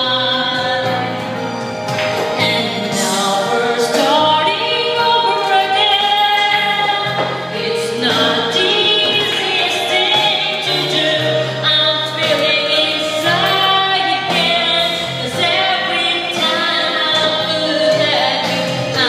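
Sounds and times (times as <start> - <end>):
backing track with bass notes: 0.0 - 19.0
woman singing into microphone: 0.0 - 19.0.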